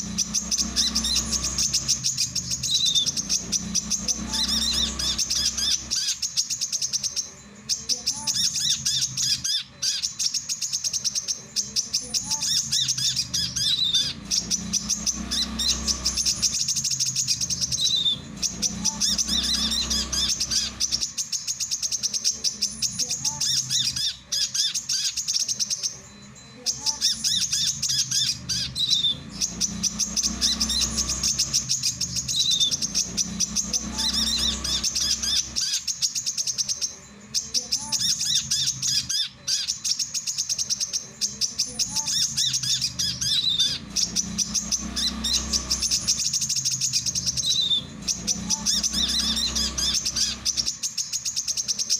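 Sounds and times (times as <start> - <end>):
bird chittering trills: 0.0 - 51.9
faint low hum: 0.0 - 51.9.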